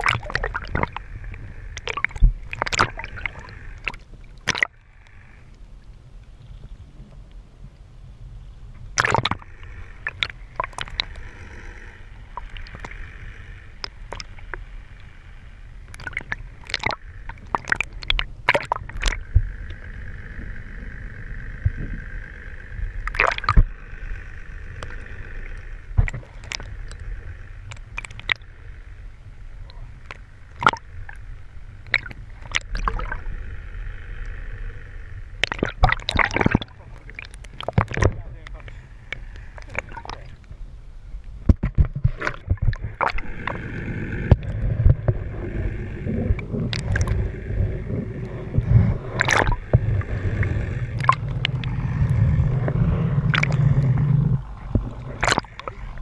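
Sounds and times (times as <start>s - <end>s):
faint hum: 0.0s - 56.0s
low rumble: 0.0s - 56.0s
water sloshing and gurgling underwater: 0.0s - 56.0s.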